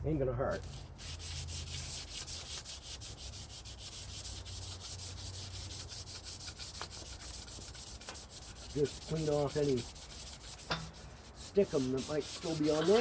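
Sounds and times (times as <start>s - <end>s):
hand scrubbing car part: 0.5s - 13.0s.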